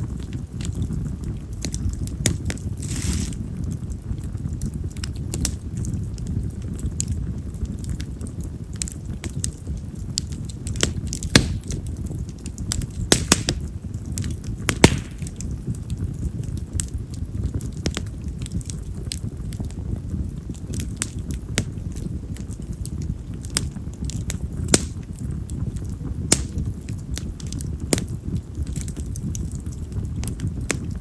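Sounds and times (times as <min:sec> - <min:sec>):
firewood burning with crackles: 0:00.0 - 0:31.0.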